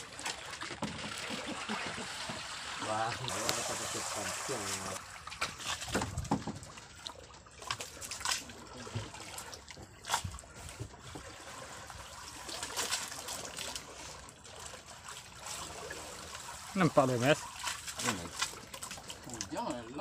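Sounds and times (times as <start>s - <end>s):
small water slaps and splashes: 0.0s - 19.6s
water lapping against boat hull: 0.0s - 20.0s.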